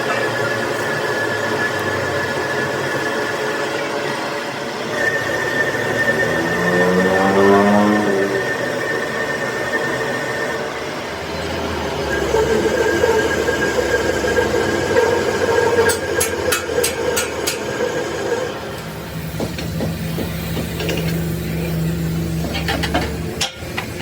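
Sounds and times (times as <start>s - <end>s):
workshop machine humming: 0.0s - 24.0s.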